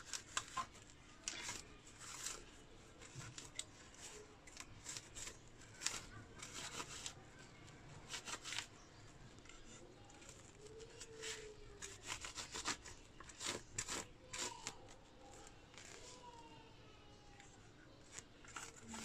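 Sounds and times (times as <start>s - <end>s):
scratchy rubbing and scraping: 0.0s - 16.4s, 18.0s - 19.0s.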